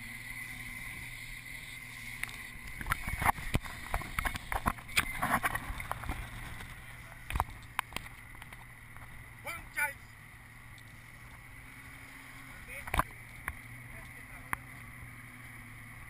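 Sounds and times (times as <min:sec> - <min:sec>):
boat engine running: 0:00.0 - 0:16.0
wind: 0:00.0 - 0:16.0.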